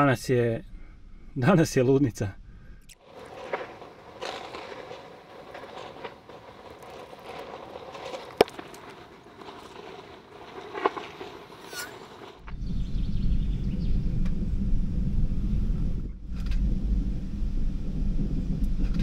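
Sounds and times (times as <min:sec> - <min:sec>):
faint outdoor background: 0:00.0 - 0:19.0.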